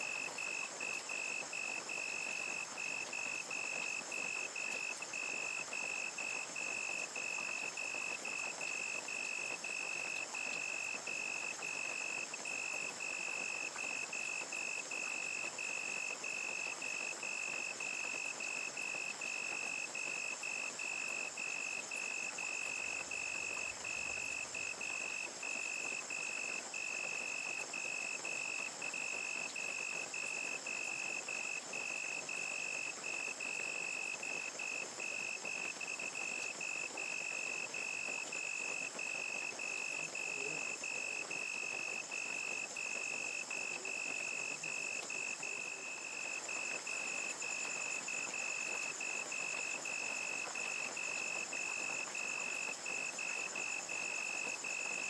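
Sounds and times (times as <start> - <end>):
crickets chirping: 0.0 - 55.0
high insect trill: 0.0 - 55.0
steady rain: 0.0 - 55.0.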